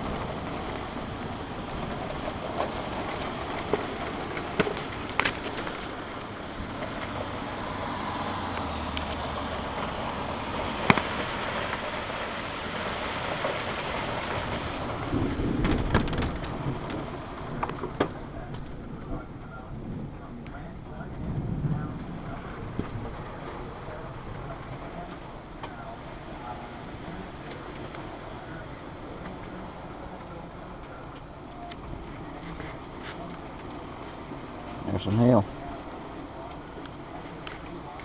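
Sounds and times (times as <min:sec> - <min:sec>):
heavy rain pouring: 0:00.0 - 0:38.0
raindrops tapping surfaces: 0:00.0 - 0:38.0.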